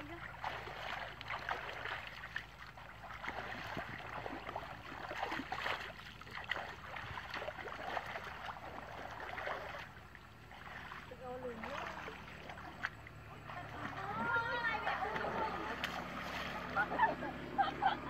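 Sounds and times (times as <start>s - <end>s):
muddy water sloshing and splashing: 0.0s - 18.0s.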